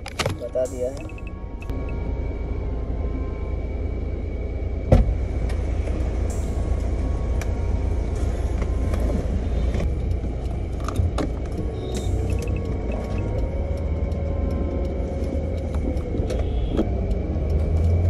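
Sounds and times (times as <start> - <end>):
car engine rumble inside cabin: 0.0 - 18.0.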